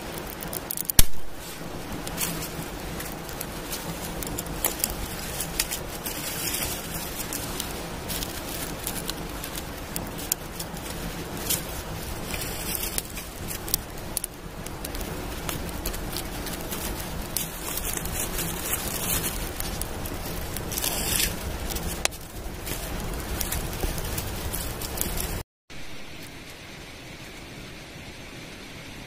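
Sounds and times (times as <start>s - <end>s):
campfire crackling: 0.0s - 29.0s
sticks laid on fire: 0.1s - 25.4s.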